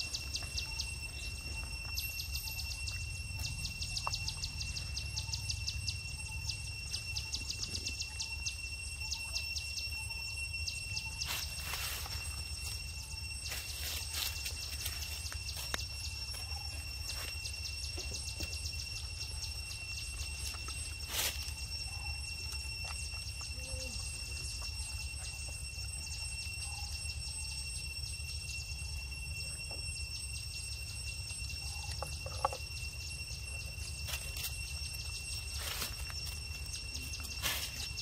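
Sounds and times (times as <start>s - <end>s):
insects droning and buzzing: 0.0s - 38.0s.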